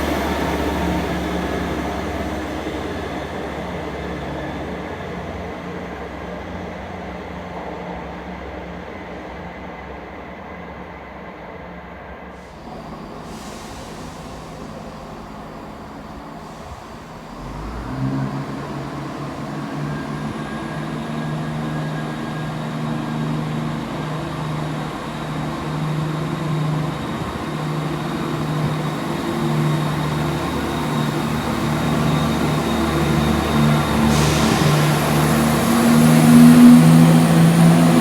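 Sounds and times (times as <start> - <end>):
diesel train engine drone: 0.0 - 38.0.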